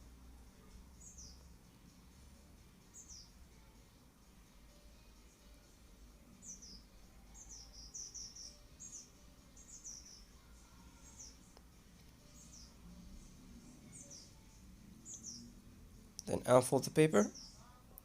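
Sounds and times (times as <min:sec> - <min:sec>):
faint bird chirping: 0:00.0 - 0:18.0.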